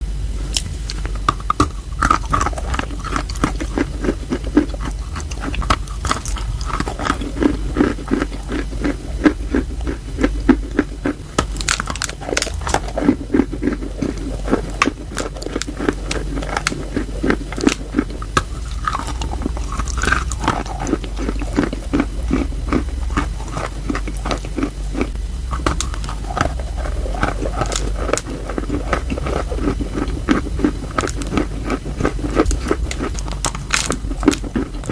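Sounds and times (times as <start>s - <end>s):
low steady hum: 0.0s - 34.9s
crunching and chewing chalk: 0.4s - 34.9s.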